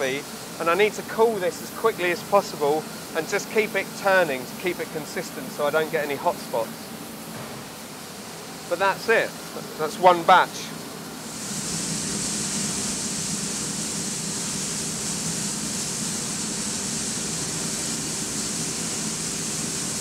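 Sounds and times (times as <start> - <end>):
fan rushing hiss: 0.0 - 20.0.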